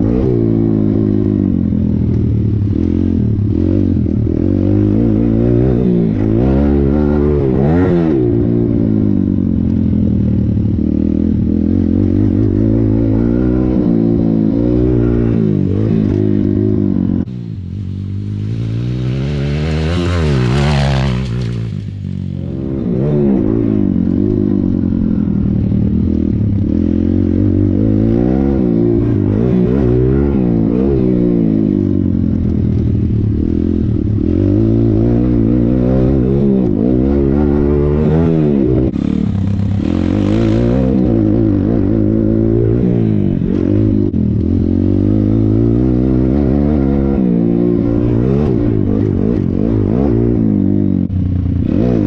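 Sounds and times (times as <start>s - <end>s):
motorbike engine revving: 0.0s - 52.0s.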